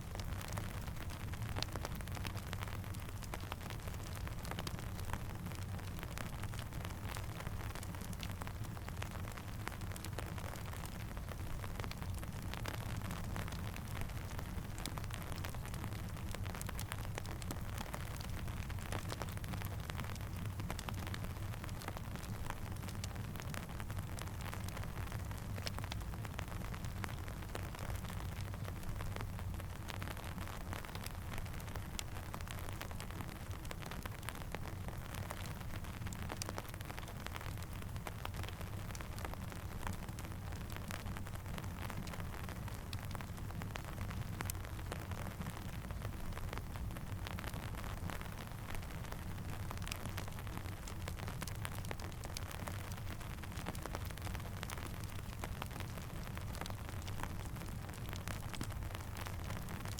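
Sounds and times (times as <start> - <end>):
campfire crackling: 0.0 - 59.9
steady rainfall: 0.0 - 59.9.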